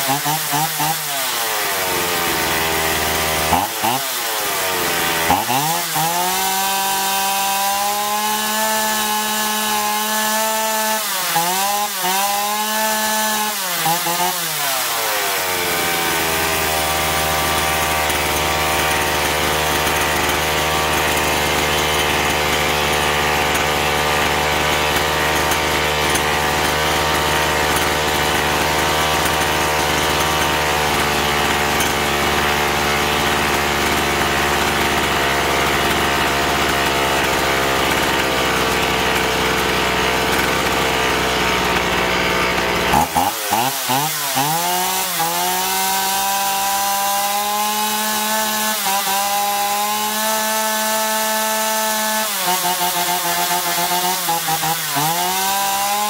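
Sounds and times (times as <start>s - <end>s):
chainsaw engine revving and idling: 0.0s - 56.0s.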